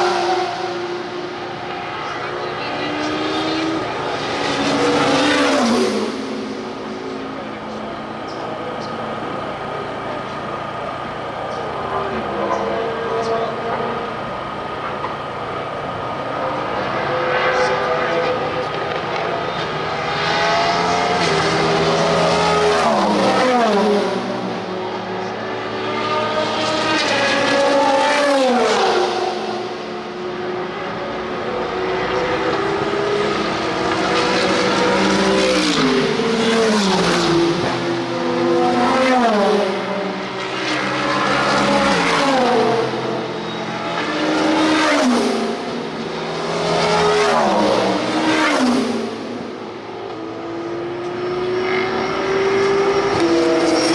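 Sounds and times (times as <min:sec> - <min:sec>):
race cars passing at speed: 0:00.0 - 0:53.9.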